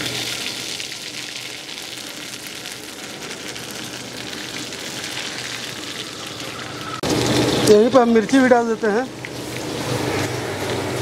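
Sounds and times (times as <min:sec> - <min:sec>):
ginger and garlic sizzling in oil: 0:00.0 - 0:11.0.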